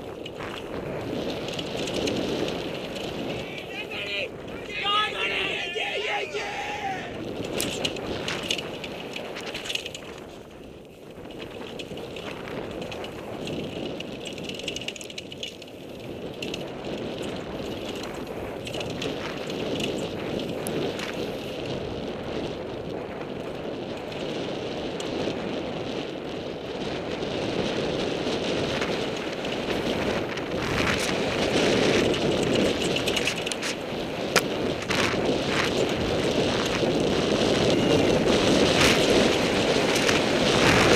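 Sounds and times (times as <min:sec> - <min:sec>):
bike rattling over bumps: 0:00.0 - 0:40.9
wind rushing over microphone: 0:00.0 - 0:40.9.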